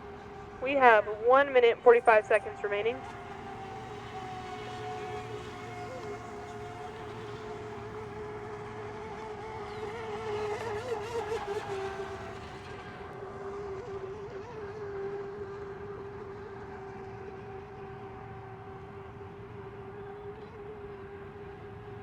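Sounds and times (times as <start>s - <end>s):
model boat engines whining: 0.0s - 22.0s.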